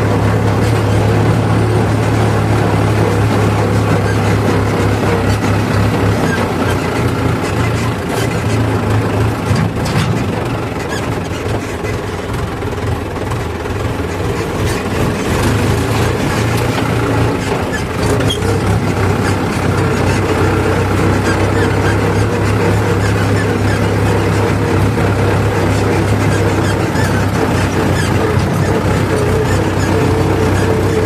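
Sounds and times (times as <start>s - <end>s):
heavy diesel engine droning: 0.0s - 31.0s.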